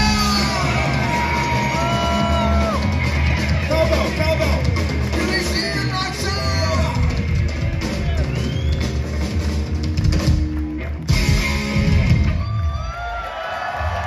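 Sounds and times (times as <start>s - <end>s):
live rock band playing: 0.0s - 13.2s.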